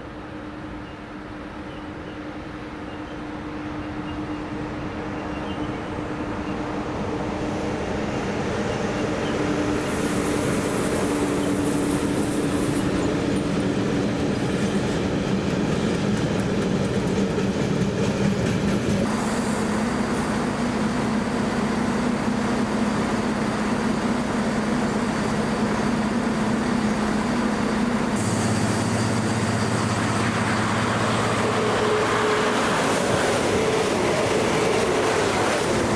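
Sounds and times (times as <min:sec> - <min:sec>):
train running on track: 0:00.0 - 0:35.9.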